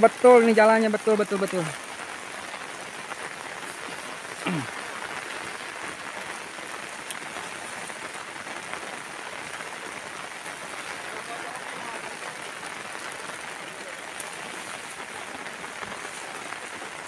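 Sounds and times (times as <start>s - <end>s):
rain falling on bushes: 0.0s - 17.0s.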